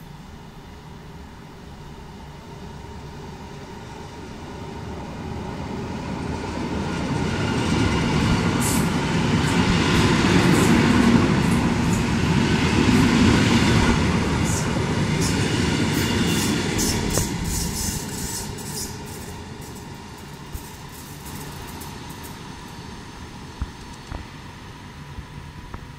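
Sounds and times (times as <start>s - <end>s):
train wheels and motors rumbling: 0.0s - 25.9s.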